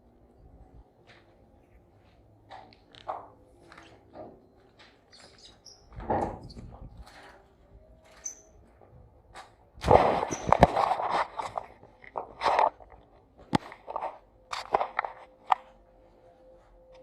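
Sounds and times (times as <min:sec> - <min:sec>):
crunching and scraping handling noises: 0:02.5 - 0:17.0.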